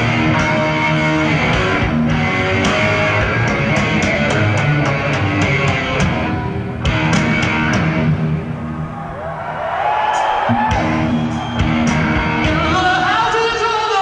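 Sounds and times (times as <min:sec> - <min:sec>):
distorted electric guitar riff: 0:00.0 - 0:09.4, 0:10.1 - 0:13.8
drums: 0:00.0 - 0:14.0.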